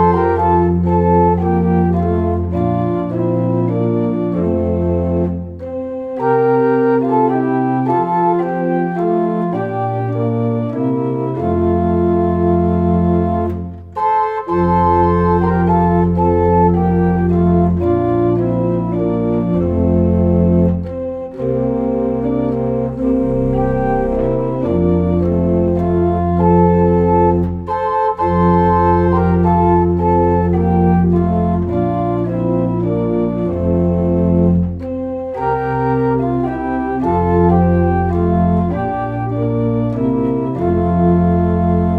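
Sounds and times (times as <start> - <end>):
organ chords with pedal bass: 0.0 - 41.9.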